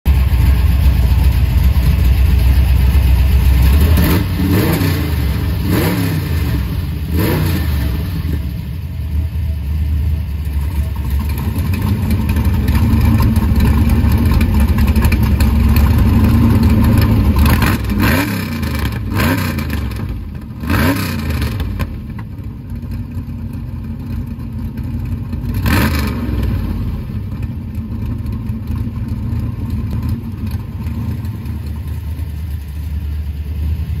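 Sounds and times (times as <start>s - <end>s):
engine throttle blips: 0.1s - 34.0s
loud deep engine exhaust: 0.1s - 34.0s.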